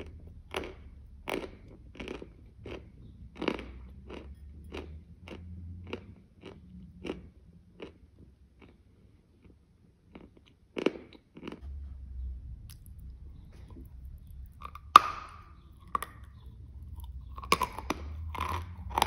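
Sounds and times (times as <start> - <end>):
close-miked chewing: 0.0 - 19.0.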